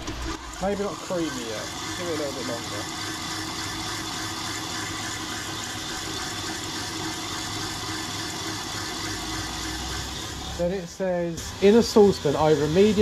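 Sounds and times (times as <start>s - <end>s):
electric whisk whirring in a bowl: 0.0s - 13.0s.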